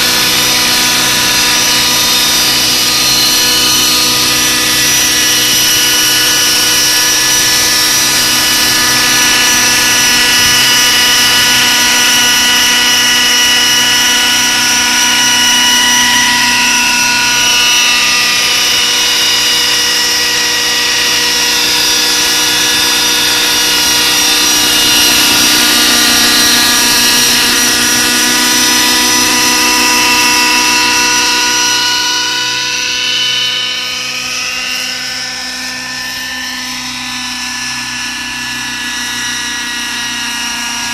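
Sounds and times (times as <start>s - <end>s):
model helicopter whine: 0.0s - 40.9s.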